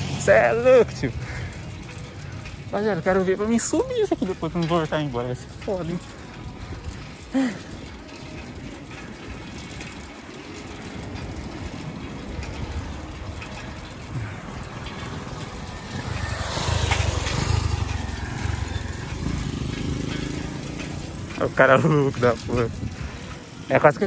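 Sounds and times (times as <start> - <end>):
car passing close: 0.0 - 7.2, 8.2 - 24.0
wind and road noise: 0.0 - 24.0.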